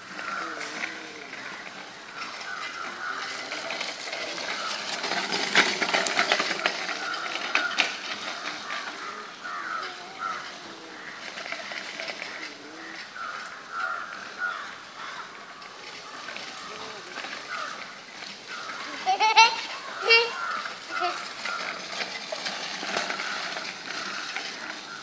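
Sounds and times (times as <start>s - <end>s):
bicycle rolling over gritty ground: 0.0s - 25.0s.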